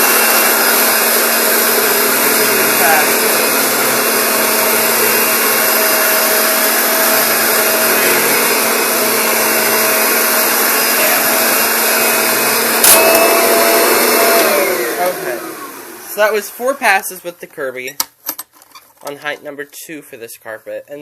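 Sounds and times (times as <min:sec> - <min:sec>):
vacuum cleaner on carpet: 0:00.0 - 0:17.1.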